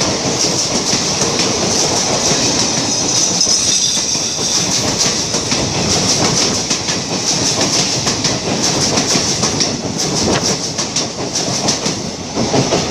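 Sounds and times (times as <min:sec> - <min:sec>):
train wheels clattering over rail joints: 0:00.0 - 0:12.9.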